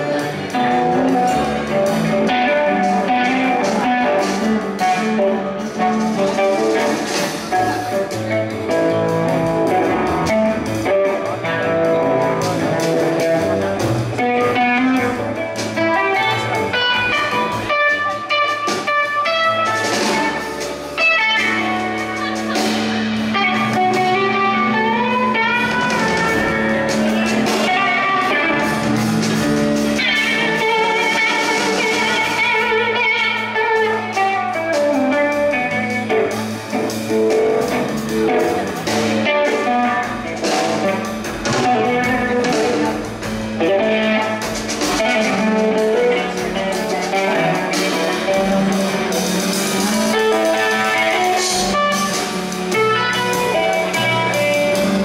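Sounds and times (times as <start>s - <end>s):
electric guitar bending notes: 0.0s - 55.0s
rock band playing live: 0.0s - 55.0s.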